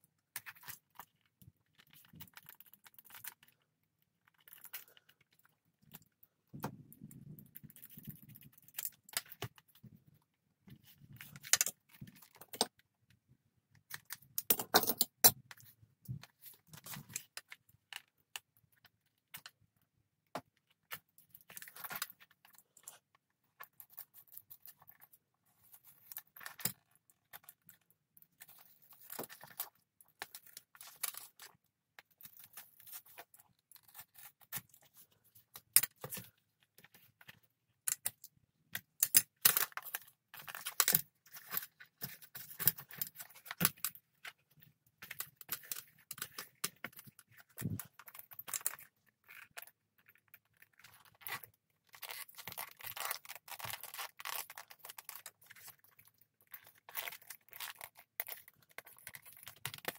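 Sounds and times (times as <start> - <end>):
small clicks and scrapes: 0.1 - 59.9.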